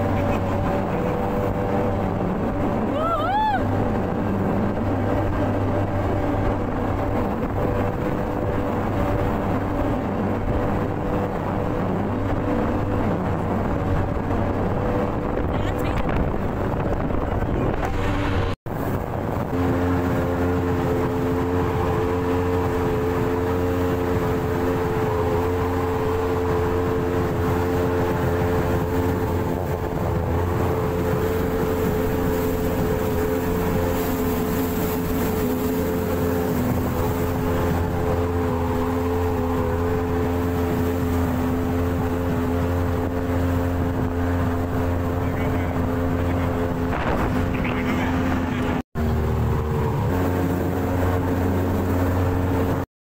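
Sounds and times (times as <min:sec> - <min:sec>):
speedboat engine droning: 0:00.0 - 0:52.9
wind and water rushing: 0:00.0 - 0:52.9.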